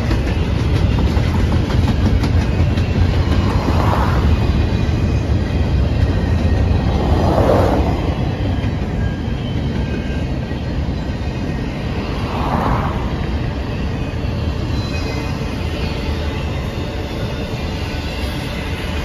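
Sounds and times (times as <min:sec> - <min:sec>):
freight train wheels rumbling on rail: 0:00.0 - 0:19.0.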